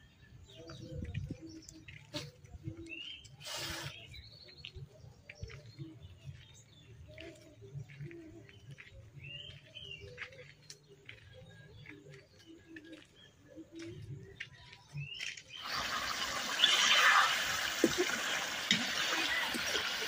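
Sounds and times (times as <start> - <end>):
faint bird chirps: 0.0 - 17.7.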